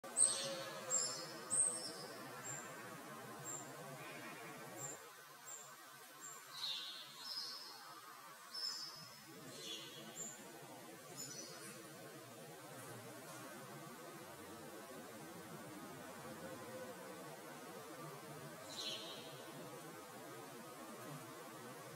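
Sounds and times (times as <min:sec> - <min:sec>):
faint background noise: 0:00.0 - 0:21.9
songbirds chirping: 0:00.0 - 0:21.9.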